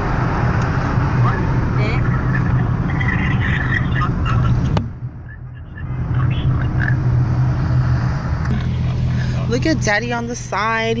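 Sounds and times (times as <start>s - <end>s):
low engine hum: 0.0s - 11.0s
road and wind noise in car: 0.0s - 11.0s.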